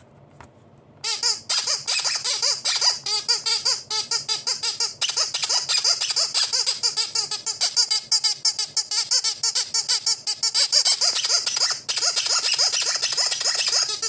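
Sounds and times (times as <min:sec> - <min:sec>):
high-pitched squeaks: 0:01.0 - 0:14.0.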